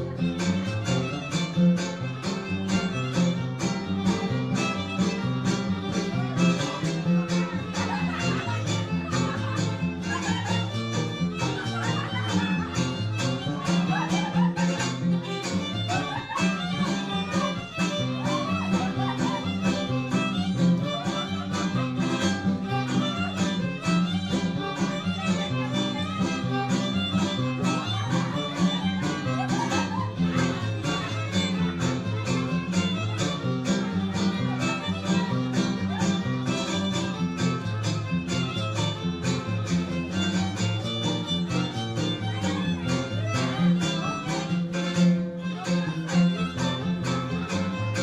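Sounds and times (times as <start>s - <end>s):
strummed guitars: 0.0s - 48.0s
violin melody: 0.0s - 48.0s.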